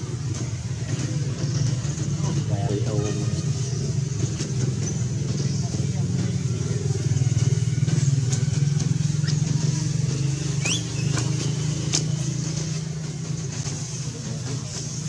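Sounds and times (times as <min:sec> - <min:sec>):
engine running with pulsing hum: 0:00.0 - 0:15.0.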